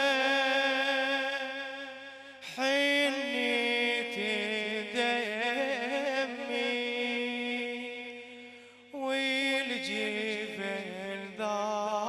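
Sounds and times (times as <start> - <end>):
man chanting a lament: 0.0 - 12.0.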